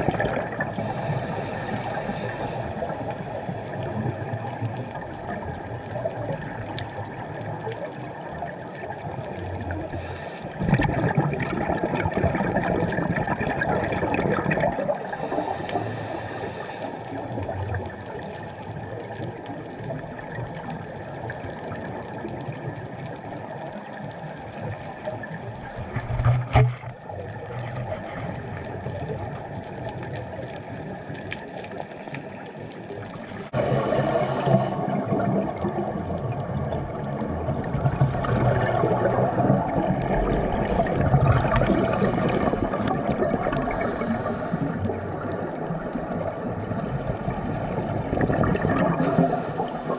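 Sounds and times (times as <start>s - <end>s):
underwater regulator bubbles: 0.0s - 24.0s, 24.6s - 49.9s.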